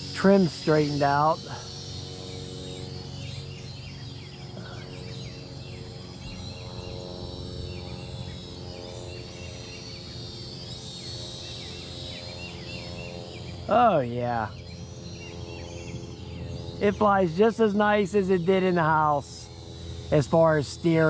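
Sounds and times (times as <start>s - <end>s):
birds chirping: 0.0s - 21.0s
toy drone motors humming: 0.0s - 21.0s.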